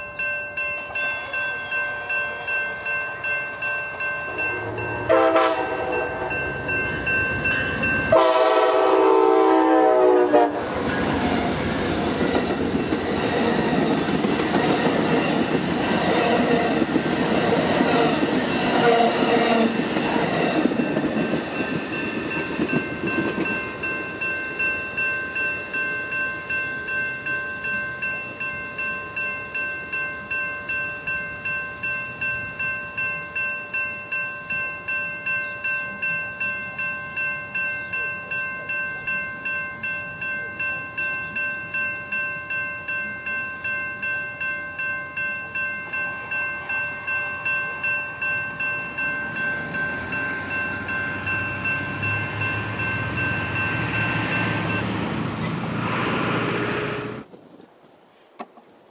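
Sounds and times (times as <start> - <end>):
railroad crossing bell ringing: 0.0 - 56.9.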